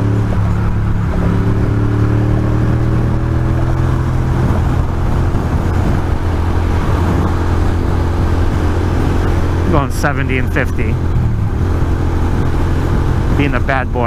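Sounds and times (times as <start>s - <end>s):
motorcycle engine at speed: 0.0s - 14.0s
wind noise: 0.0s - 14.0s.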